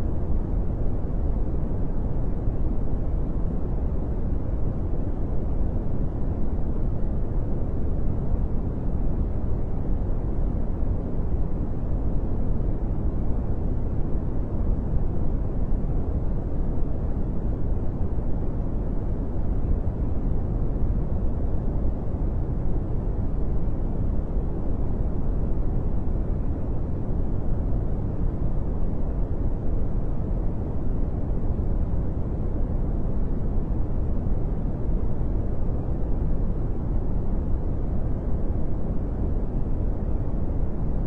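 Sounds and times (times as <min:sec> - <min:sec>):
brown noise hiss: 0:00.0 - 0:41.0.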